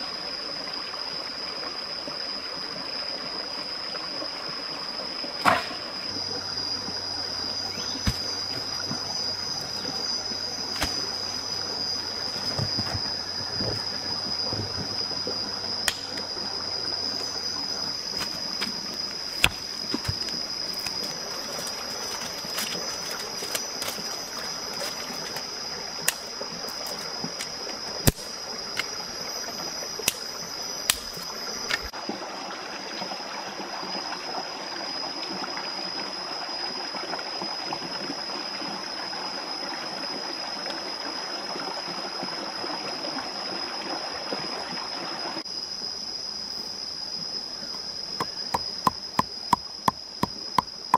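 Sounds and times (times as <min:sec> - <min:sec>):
high insect drone: 0:00.0 - 0:50.9
stream water running: 0:00.0 - 0:50.9.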